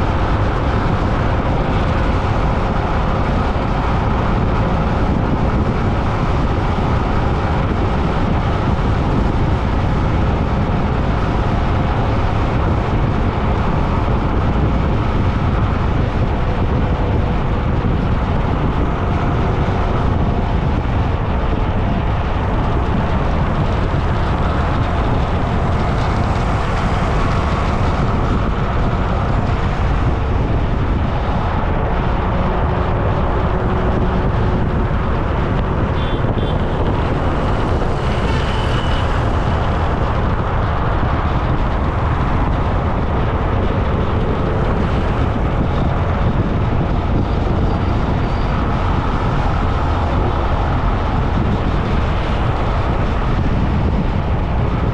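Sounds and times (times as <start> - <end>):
road and wind noise: 0.0 - 54.9.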